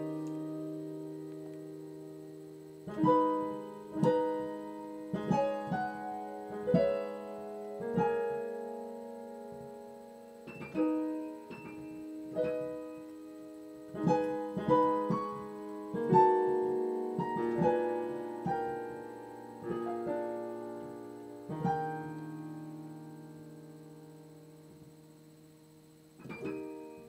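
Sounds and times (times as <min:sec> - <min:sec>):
piano slow chords: 0:00.0 - 0:27.0.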